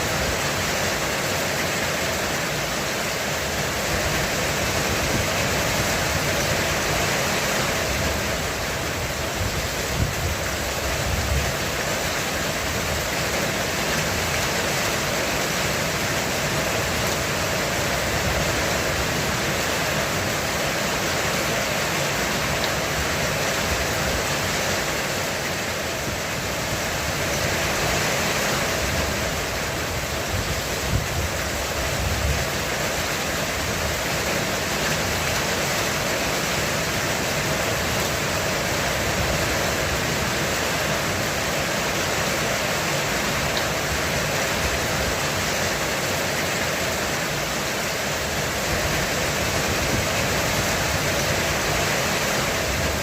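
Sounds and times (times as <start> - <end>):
heavy rain on a roof: 0.0 - 53.0.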